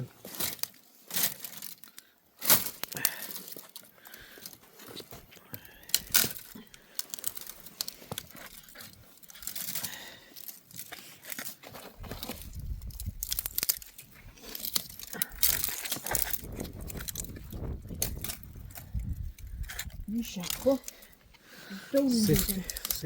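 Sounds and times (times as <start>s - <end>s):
dry crackling and rustling: 0.0s - 23.0s.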